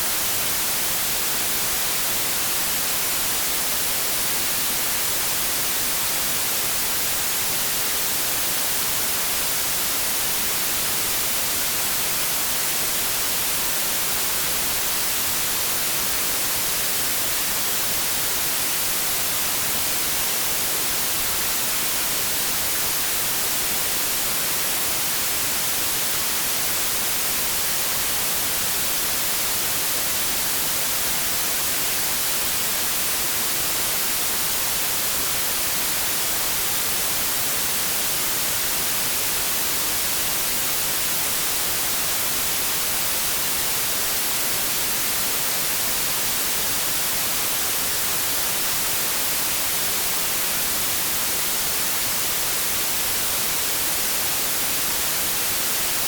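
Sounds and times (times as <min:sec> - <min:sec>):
white noise static hiss: 0:00.0 - 0:56.0.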